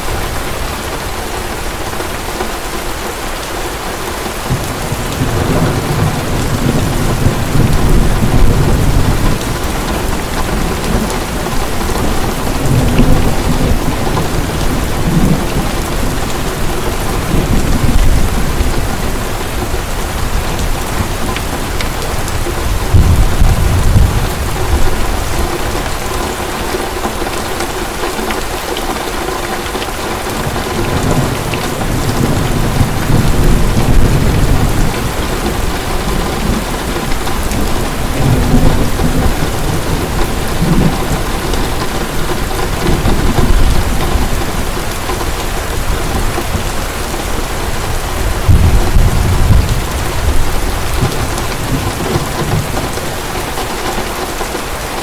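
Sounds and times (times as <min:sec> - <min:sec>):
heavy rain falling: 0:00.0 - 0:55.0
distant thunder rumbling: 0:04.4 - 0:27.6, 0:30.0 - 0:54.3.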